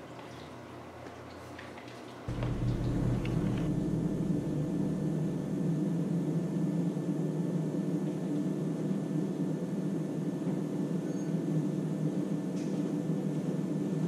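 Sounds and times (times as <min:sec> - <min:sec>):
low rumbling hum: 0:02.3 - 0:14.0.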